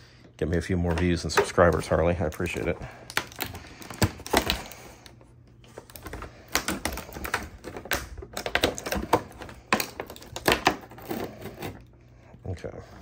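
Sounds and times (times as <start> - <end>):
plastic packaging crinkling: 0.5 - 11.8.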